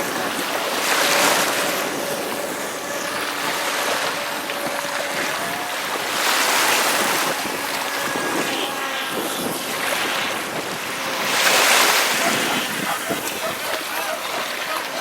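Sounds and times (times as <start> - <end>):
electric motor whine: 0.0 - 15.0
sea waves washing in: 0.0 - 15.0
wind buffeting microphone: 0.0 - 15.0.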